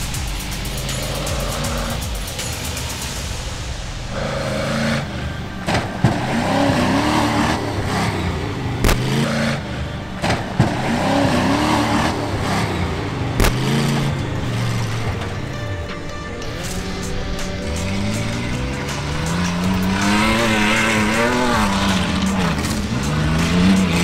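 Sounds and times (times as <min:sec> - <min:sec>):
sharp bangs: 0:00.0 - 0:24.0
truck engine revving: 0:00.0 - 0:24.0.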